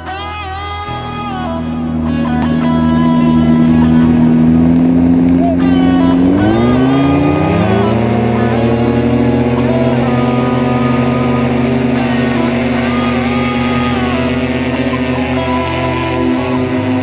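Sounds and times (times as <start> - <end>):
music playing: 0.0 - 17.0
paramotor engine and propeller running: 0.8 - 17.0.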